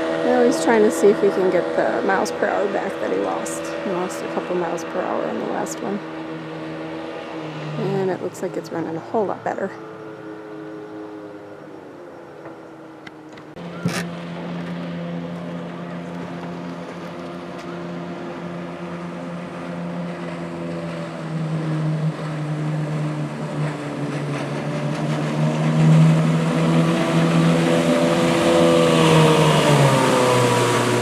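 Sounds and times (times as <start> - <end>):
outboard boat engine at speed: 0.0 - 31.0.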